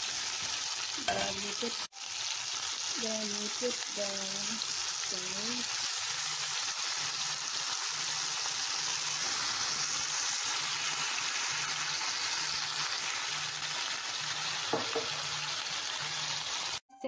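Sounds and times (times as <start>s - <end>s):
sauce sizzling in a hot pan: 0.0s - 16.8s.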